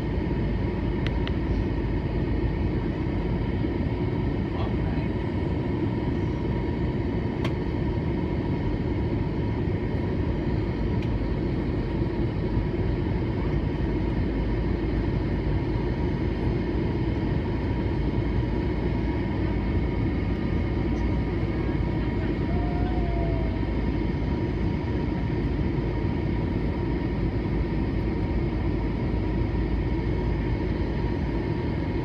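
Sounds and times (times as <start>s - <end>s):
jet engine and airflow rush: 0.0s - 32.0s.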